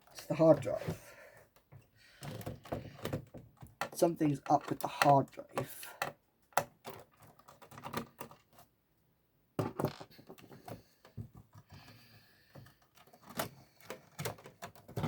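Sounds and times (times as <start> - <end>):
plastic and metal clicks and knocks: 1.4 - 8.7, 9.6 - 15.0.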